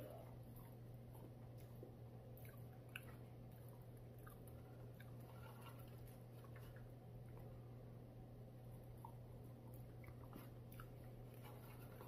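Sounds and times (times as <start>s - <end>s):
chewing food: 0.0s - 7.9s, 8.5s - 12.0s
low steady hum: 0.0s - 12.0s.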